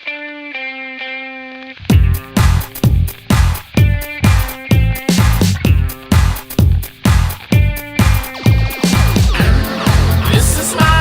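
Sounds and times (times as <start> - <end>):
funky rock music: 0.0 - 11.0.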